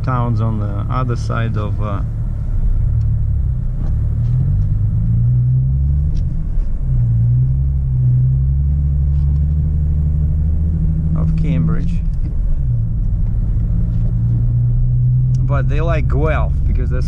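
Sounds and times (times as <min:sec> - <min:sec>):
diesel truck engine drone: 0:00.0 - 0:17.0.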